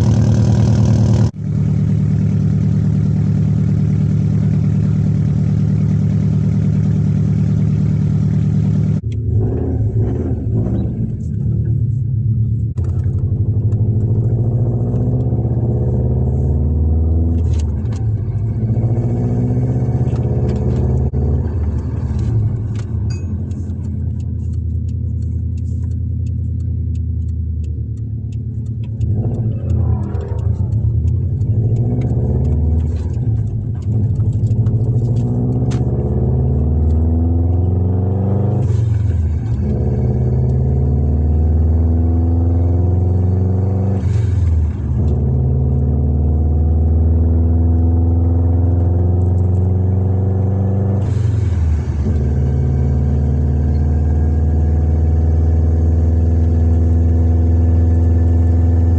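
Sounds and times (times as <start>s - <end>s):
car engine rumbling: 0.0s - 58.9s.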